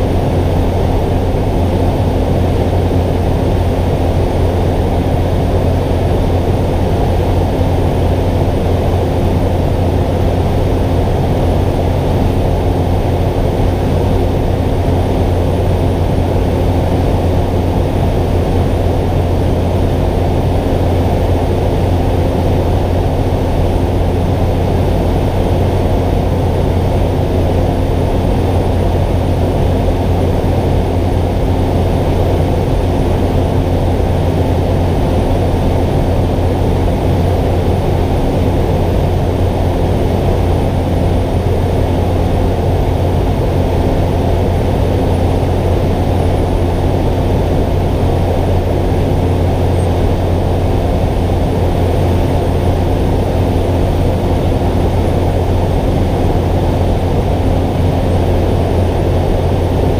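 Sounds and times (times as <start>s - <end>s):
steady hum: 0.0s - 59.9s
turboprop engine drone: 0.0s - 59.9s.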